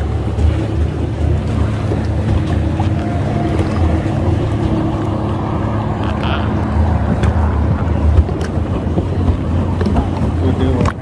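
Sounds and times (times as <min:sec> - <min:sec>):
low boat engine hum: 0:00.0 - 0:11.0
water sloshing around boat: 0:00.0 - 0:11.0
wind buffeting microphone: 0:00.0 - 0:11.0.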